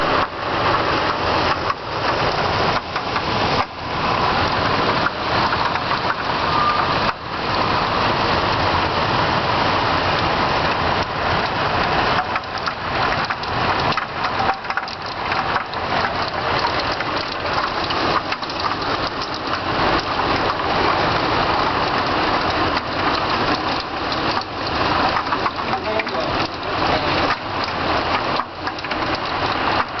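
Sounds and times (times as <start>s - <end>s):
hailstones striking hard surfaces: 0.1s - 6.4s, 10.7s - 30.0s.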